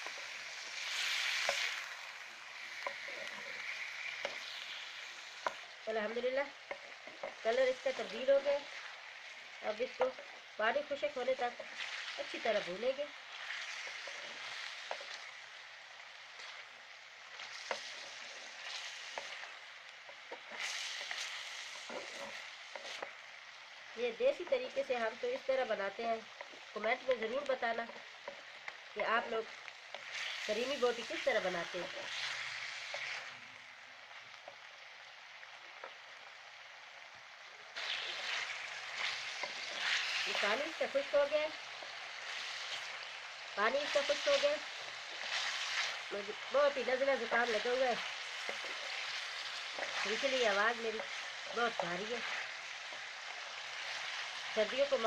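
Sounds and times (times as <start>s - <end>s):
chicken sizzling in a pan: 0.0s - 55.0s.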